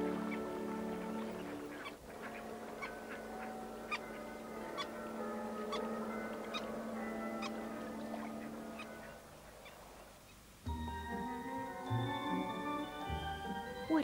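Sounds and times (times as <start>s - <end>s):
soft orchestral chords: 0.0s - 9.9s, 10.7s - 14.0s.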